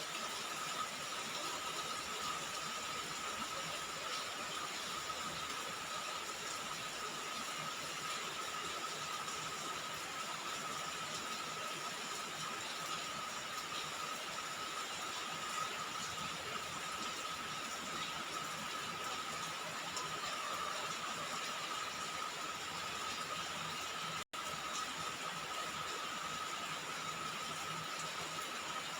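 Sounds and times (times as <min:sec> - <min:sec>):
rain on a roof: 0:00.0 - 0:28.9.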